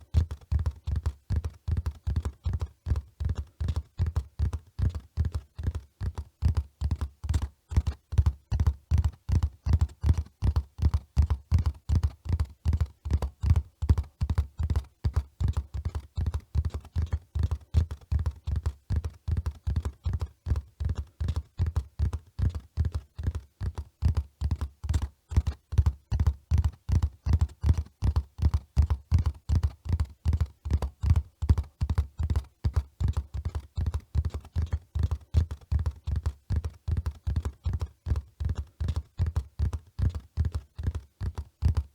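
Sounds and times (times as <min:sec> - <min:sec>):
horse hoofbeats at a run: 0:00.0 - 0:41.9.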